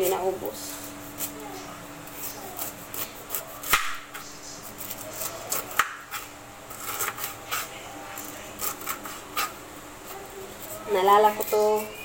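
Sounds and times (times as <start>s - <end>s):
knife cutting pineapple: 0.0s - 12.0s.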